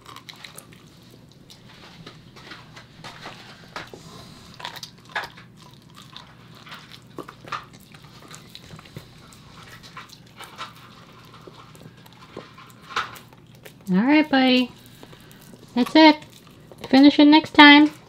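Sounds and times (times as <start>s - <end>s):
dog gnawing on bone: 0.0s - 18.0s.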